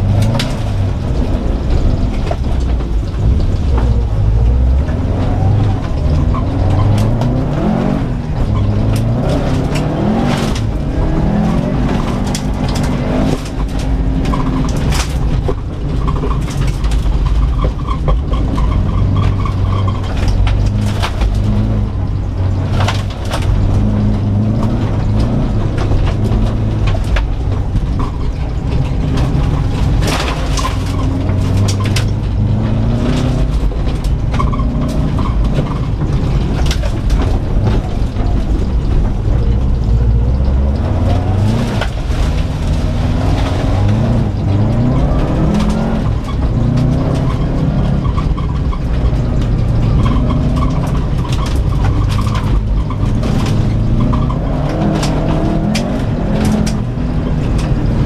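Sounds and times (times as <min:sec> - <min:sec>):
car engine revving: 0:00.0 - 0:58.0
sharp knocks and clicks: 0:00.0 - 0:58.0.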